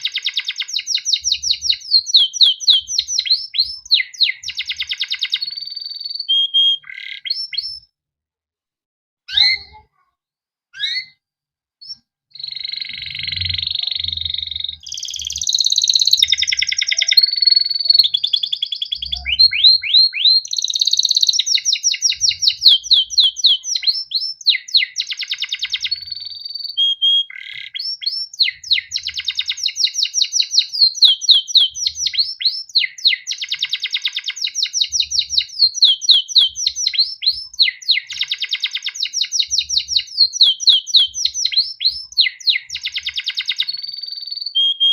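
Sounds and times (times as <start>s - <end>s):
canary singing trills: 0.0s - 7.9s, 9.3s - 10.0s, 10.8s - 11.2s, 11.8s - 44.9s.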